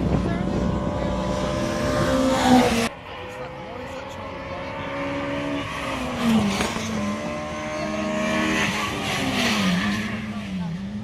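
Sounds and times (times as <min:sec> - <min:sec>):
rally car engine running: 0:00.0 - 0:11.0.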